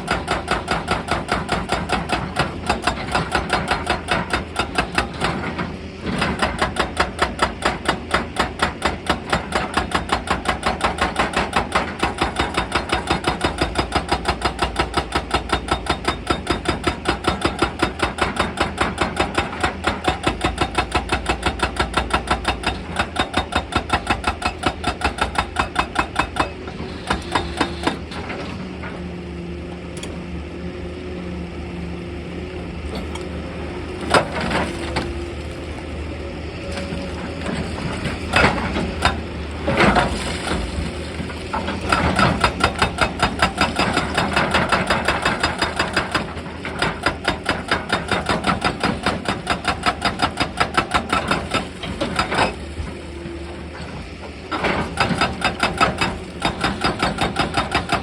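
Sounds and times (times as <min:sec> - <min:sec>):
hydraulic breaker hammering rock: 0:00.0 - 0:28.3, 0:36.7 - 0:58.0
excavator engine running: 0:00.0 - 0:58.0.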